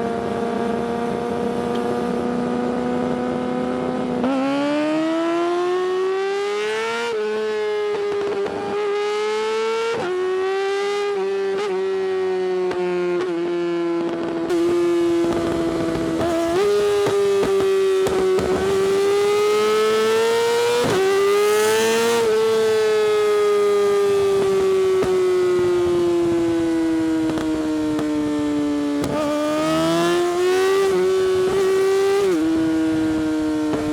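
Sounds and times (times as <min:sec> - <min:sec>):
motorcycle engine at high revs: 0:00.0 - 0:33.9.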